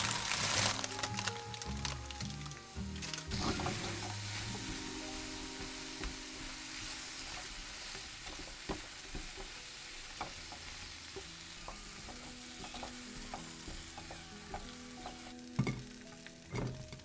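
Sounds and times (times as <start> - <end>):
sizzling in bubbling syrup: 0.0 - 17.0
chopsticks tapping a pan: 3.2 - 17.0.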